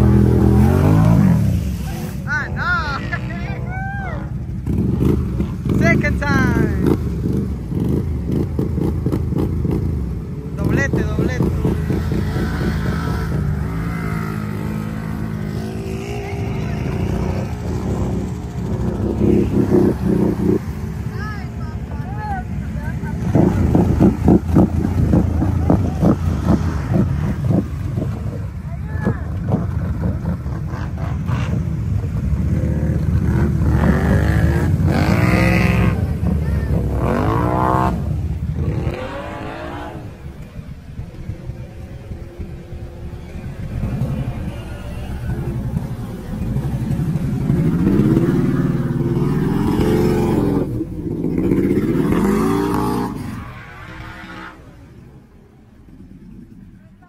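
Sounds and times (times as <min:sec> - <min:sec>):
quad engine revving: 0:00.0 - 0:21.4, 0:22.1 - 0:55.1
quad churning through mud and water: 0:00.0 - 0:56.8.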